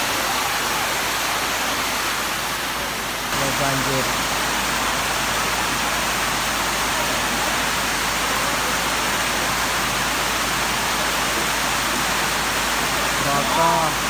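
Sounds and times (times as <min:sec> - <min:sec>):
heavy rain on a tent roof: 0:00.0 - 0:14.0.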